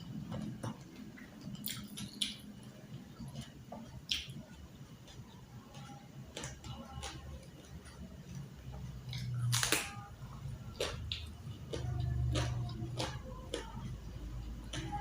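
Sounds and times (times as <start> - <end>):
chewing with wet crunches: 0.0 - 15.0.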